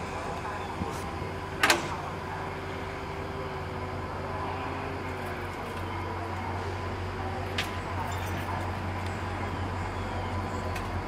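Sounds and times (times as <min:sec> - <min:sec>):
diesel locomotive humming: 0:00.0 - 0:11.0.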